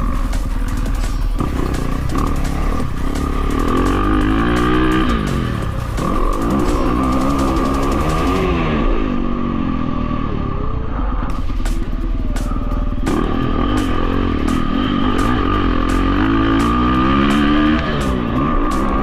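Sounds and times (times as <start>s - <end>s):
dirt bike engine revving: 0.0s - 10.3s, 11.0s - 19.0s.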